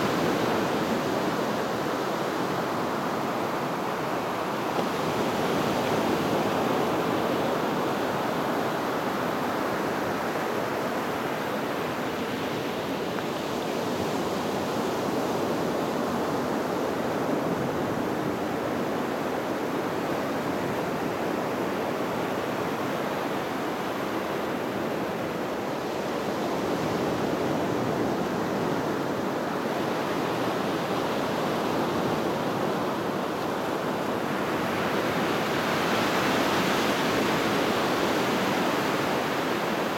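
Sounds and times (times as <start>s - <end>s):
waves washing up a beach: 0.0s - 39.9s.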